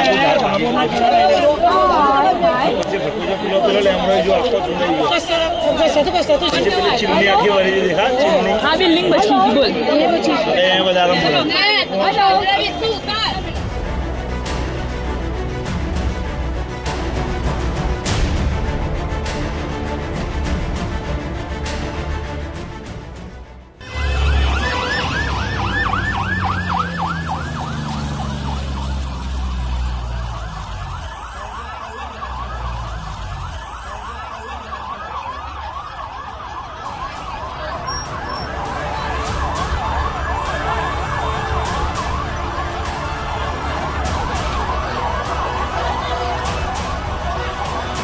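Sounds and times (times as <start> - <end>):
emergency sirens yelping: 0.0 - 19.4, 23.8 - 48.0.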